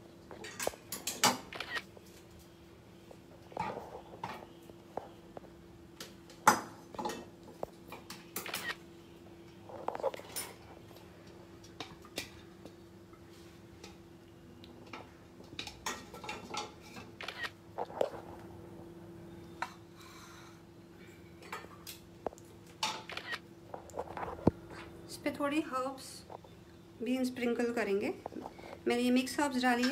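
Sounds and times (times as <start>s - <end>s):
faint steady hum: 0.0s - 29.9s.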